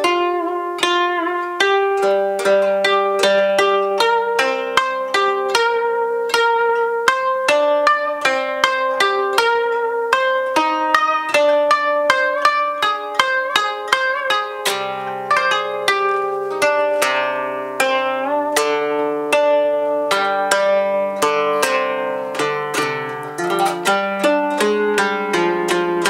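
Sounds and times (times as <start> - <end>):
koto plucked notes: 0.0 - 26.0.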